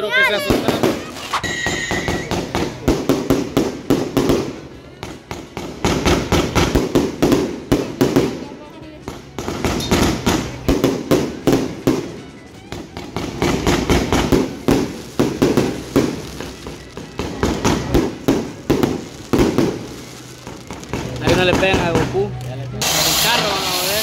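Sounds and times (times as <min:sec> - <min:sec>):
fireworks crackling: 0:00.0 - 0:24.0
fireworks bursting with bangs: 0:00.1 - 0:24.0.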